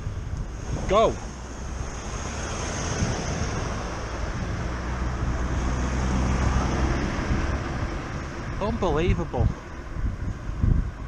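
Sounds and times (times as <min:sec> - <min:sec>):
vehicle engine humming: 0:00.0 - 0:11.0
wind noise on microphone: 0:00.0 - 0:11.0.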